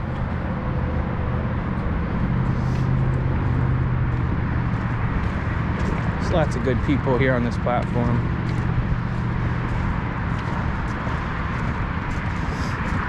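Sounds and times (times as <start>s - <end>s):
low drone of road traffic: 0.0s - 13.0s.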